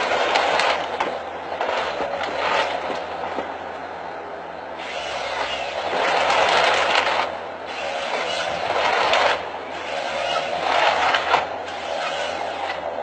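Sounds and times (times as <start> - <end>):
harvester mechanical clatter: 0.0 - 13.0.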